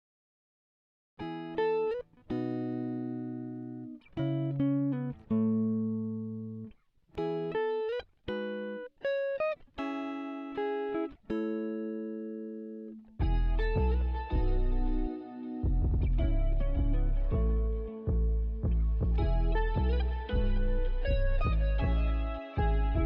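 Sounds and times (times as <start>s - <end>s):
plucked guitar-like instrument: 1.2s - 23.0s.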